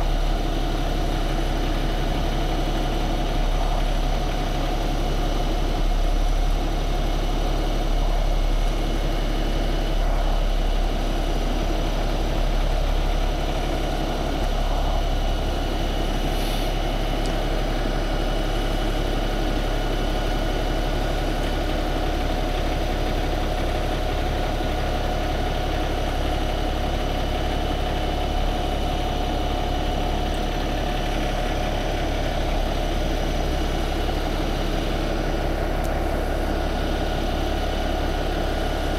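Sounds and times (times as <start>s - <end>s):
diesel truck engine idling: 0.0s - 38.9s
steady whine: 0.0s - 38.9s.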